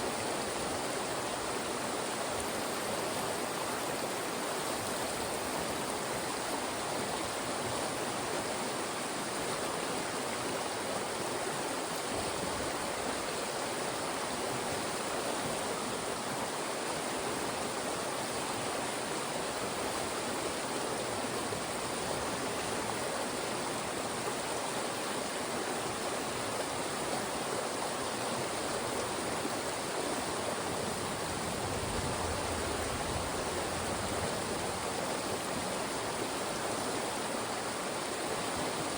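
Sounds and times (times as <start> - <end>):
mountain stream rushing over rocks: 0.0 - 38.9.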